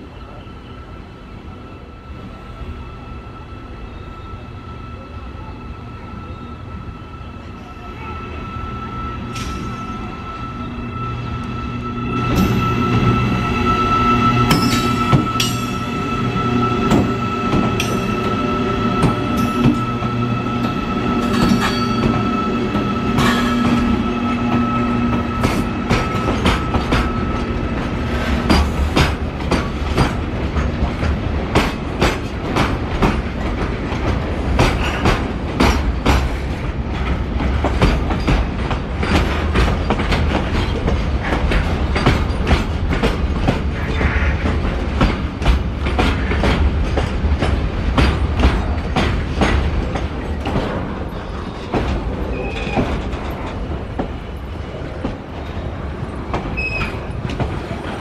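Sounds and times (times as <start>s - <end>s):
freight train rumbling: 0.0s - 58.0s.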